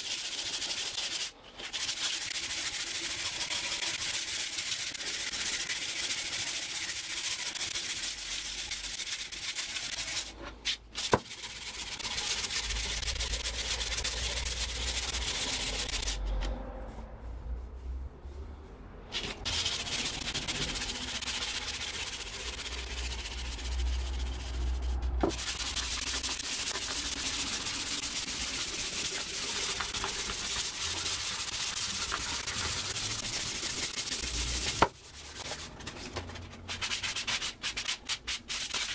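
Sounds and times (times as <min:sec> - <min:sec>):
sandpaper rasping on wood: 0:00.0 - 0:10.4, 0:11.0 - 0:16.2, 0:19.2 - 0:35.8, 0:36.6 - 0:38.9.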